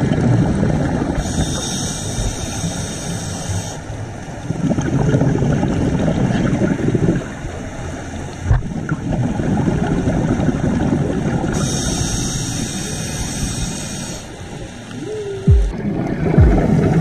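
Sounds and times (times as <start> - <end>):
underwater bubbles gurgling: 0.0 - 17.0.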